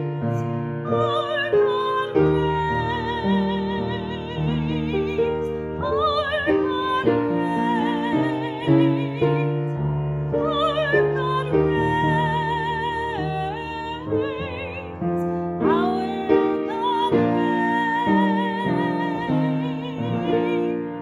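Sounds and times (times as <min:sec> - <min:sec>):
woman singing a hymn: 0:00.0 - 0:21.0.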